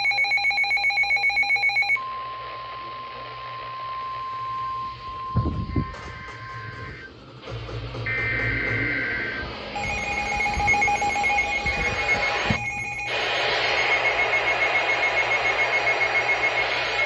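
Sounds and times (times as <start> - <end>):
weather alert radio alarm beeping: 0.0 - 7.1, 8.1 - 17.0.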